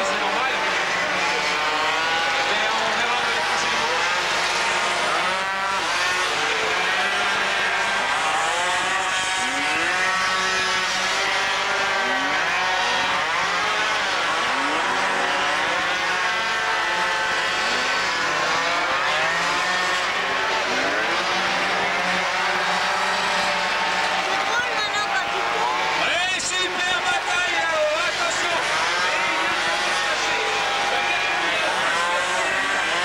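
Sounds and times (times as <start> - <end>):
racing scooter engines whining: 0.0 - 33.0.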